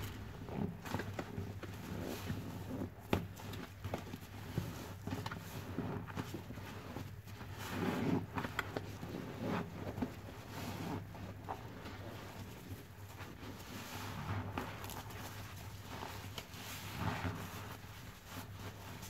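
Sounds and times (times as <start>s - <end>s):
soapy sponge squelching: 0.0s - 19.0s.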